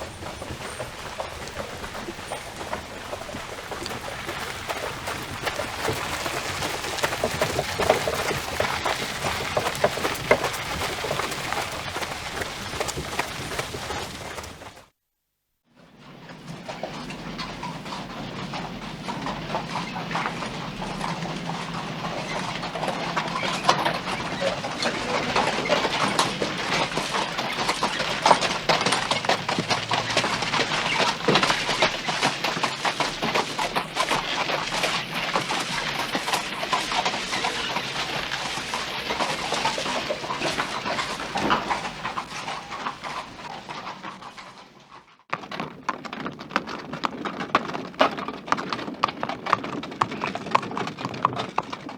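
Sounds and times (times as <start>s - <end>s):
horse hoofbeats clattering: 0.0s - 14.9s, 15.9s - 51.9s.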